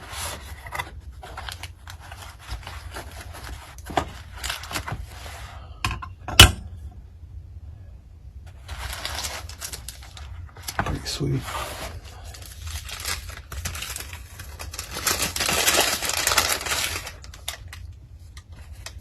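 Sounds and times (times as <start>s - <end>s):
packaging rustling: 0.0s - 5.6s, 8.5s - 19.0s.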